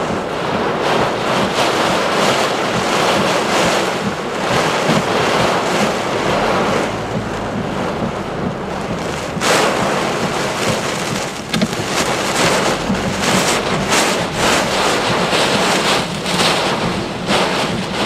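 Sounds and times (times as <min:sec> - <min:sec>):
gusting wind: 0:00.0 - 0:18.0
rain: 0:00.0 - 0:18.0
wind buffeting microphone: 0:00.0 - 0:18.0.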